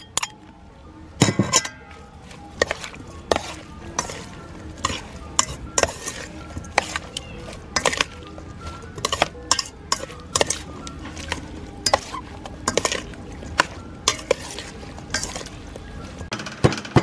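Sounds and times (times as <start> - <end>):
metal spoon clinking on metal bowl: 0.0 - 0.4, 1.2 - 2.0, 2.6 - 15.6
soft squelch of wet vegetables: 1.9 - 16.3.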